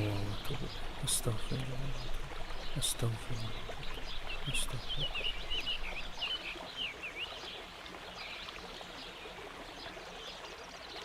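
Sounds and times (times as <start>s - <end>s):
birds chirping: 0.0s - 11.0s
flowing stream: 0.0s - 11.0s.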